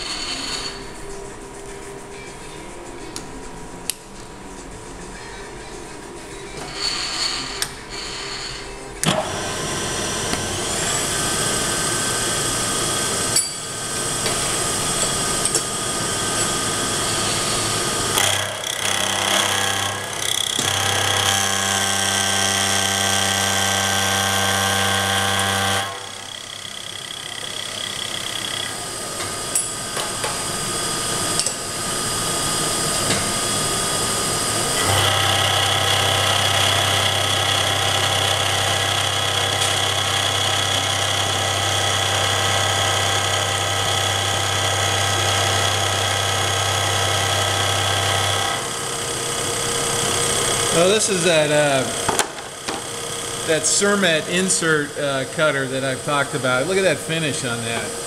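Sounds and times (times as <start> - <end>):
milling machine spindle whine: 4.6 - 58.0.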